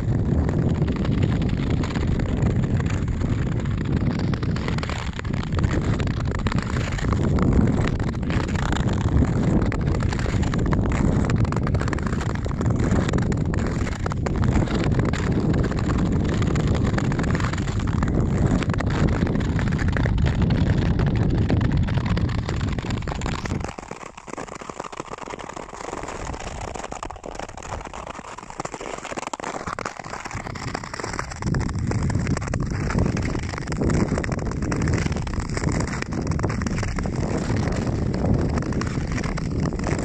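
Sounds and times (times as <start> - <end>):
wind buffeting microphone: 0.0 - 23.8, 30.1 - 40.0
skate blades scraping on ice: 0.0 - 40.0.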